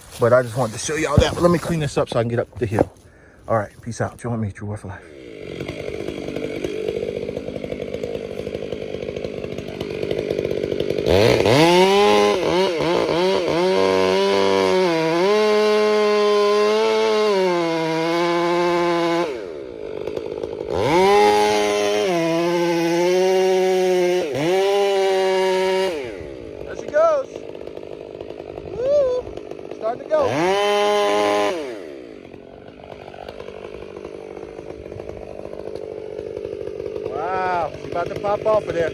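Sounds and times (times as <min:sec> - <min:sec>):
chainsaw revving and cutting: 0:00.0 - 0:04.1, 0:04.8 - 0:38.9.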